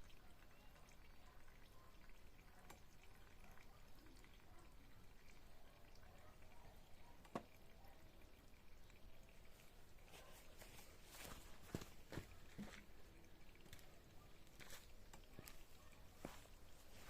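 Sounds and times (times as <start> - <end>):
oil trickling into a pan: 0.0 - 17.0.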